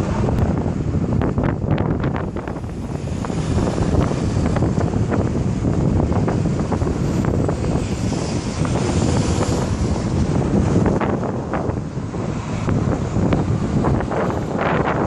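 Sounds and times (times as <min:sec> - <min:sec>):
highway traffic noise: 0:00.0 - 0:15.0
wind buffeting microphone: 0:00.0 - 0:15.0.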